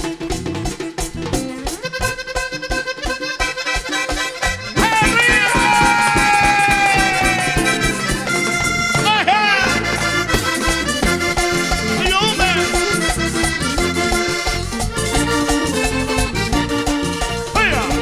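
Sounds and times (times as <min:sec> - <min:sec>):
accordion: 0:00.0 - 0:18.0
percussion and bass beat: 0:00.0 - 0:18.0.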